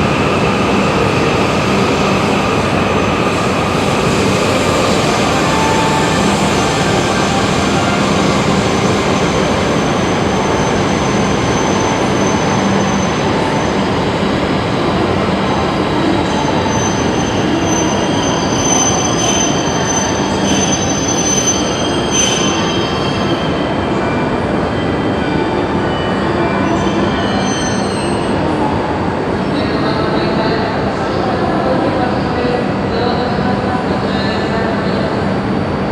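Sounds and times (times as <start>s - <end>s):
train running noise with whine: 0.0s - 35.9s.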